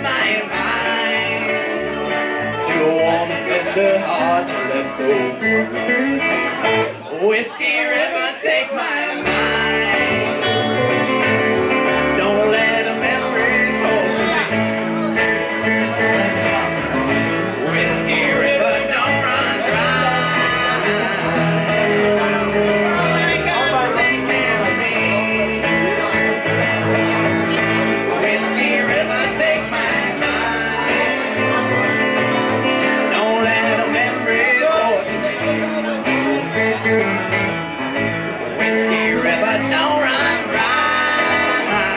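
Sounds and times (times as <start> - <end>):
plucked upright bass: 0.0 - 7.0, 9.2 - 41.9
person singing: 0.0 - 37.6, 38.4 - 41.9
electric guitar: 0.0 - 41.9
strummed acoustic guitar: 0.0 - 41.9.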